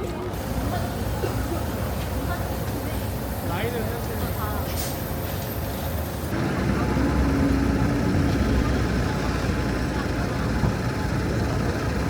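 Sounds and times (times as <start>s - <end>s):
city road traffic: 0.0s - 12.0s
engine running close by: 0.3s - 12.0s.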